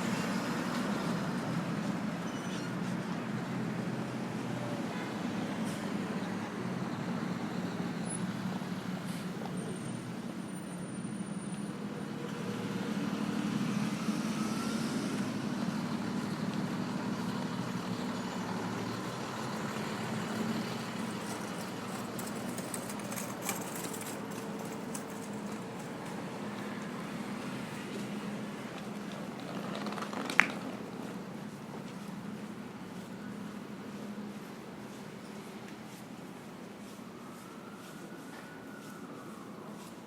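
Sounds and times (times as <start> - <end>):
traffic engines humming: 0.0 - 40.0.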